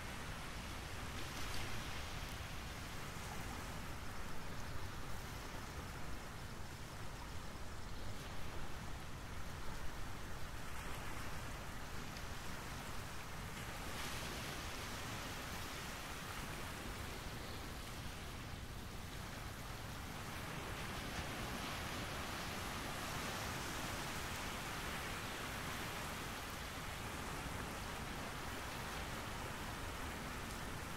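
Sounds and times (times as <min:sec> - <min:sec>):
outdoor background hiss: 0:00.0 - 0:30.9.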